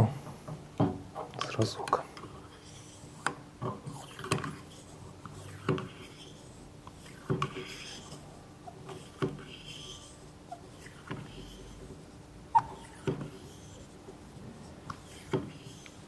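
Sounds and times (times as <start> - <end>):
pump rubbing rasp: 2.4 - 16.0.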